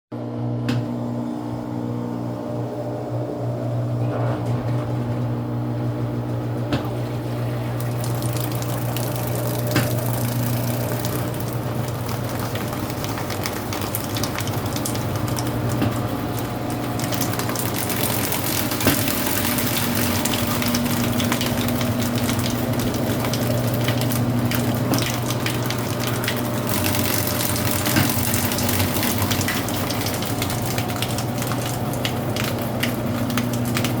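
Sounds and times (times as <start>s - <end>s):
washing machine humming: 0.1s - 34.0s.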